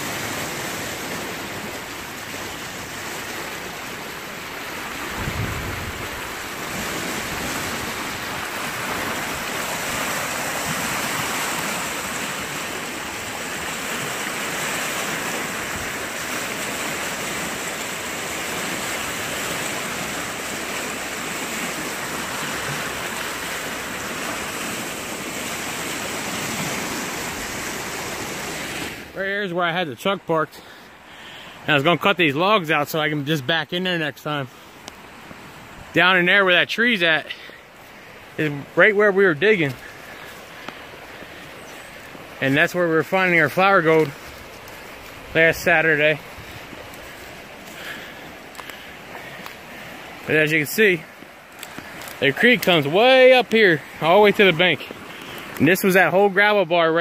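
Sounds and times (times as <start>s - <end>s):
water rushing in creek: 0.0s - 57.0s.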